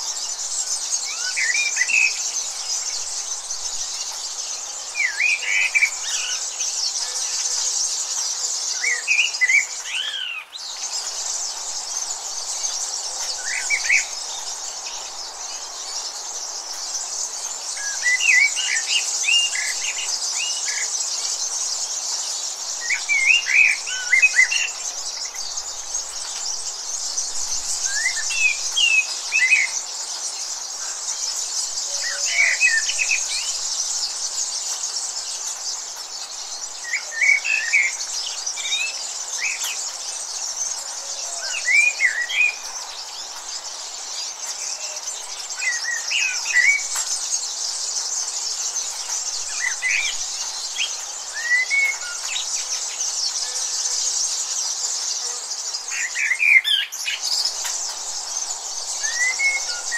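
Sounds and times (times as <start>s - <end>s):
birds chirping: 0.0s - 59.9s
steady high-pitched hiss: 0.0s - 59.9s.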